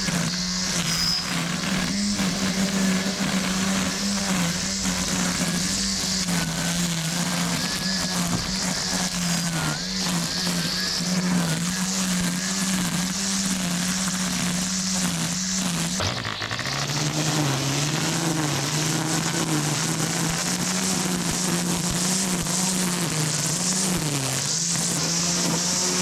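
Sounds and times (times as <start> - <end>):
electric string trimmer humming: 0.0 - 26.0.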